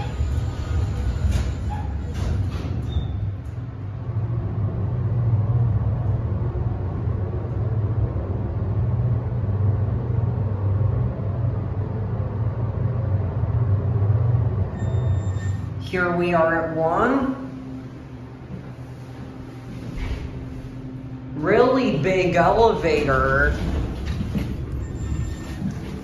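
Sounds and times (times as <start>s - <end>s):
elevator hum and rumble: 0.0s - 26.0s.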